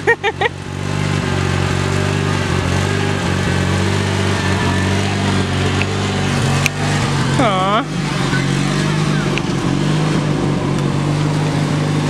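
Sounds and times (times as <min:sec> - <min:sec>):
riding lawn mower engine running: 0:00.0 - 0:12.0.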